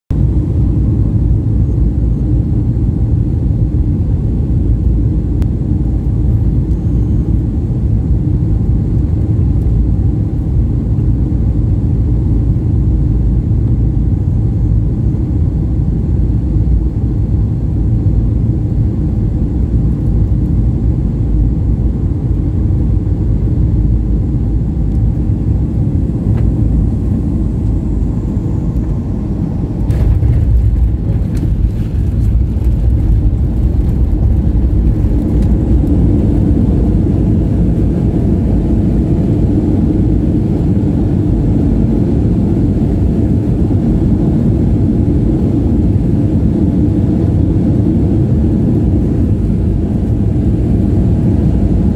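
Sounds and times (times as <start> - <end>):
aircraft cabin engine rumble: 0.1 - 51.9.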